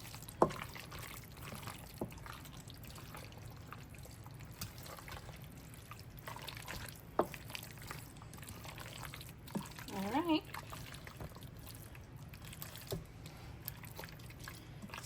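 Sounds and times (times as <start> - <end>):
squelching mixture being stirred: 0.0 - 15.0.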